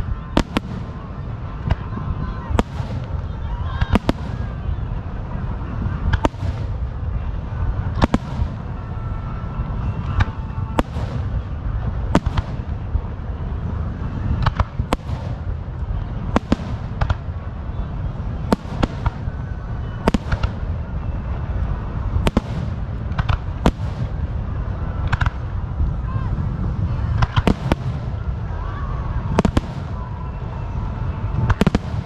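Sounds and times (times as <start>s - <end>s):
fireworks bangs: 0.0s - 32.0s
low rumble: 0.0s - 32.0s.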